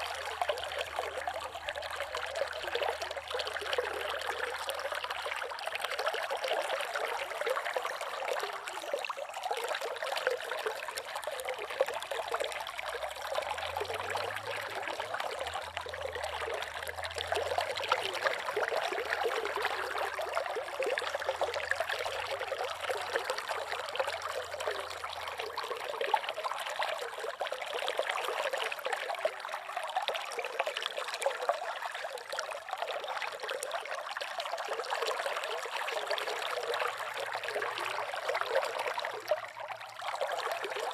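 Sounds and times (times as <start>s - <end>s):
river water trickling: 0.0s - 40.9s.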